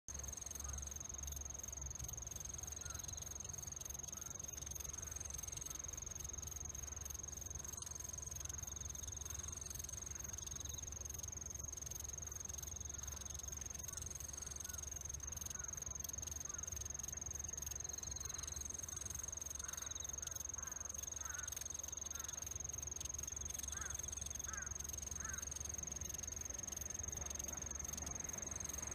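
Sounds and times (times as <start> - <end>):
high-pitched insect trill: 0.1 - 28.9.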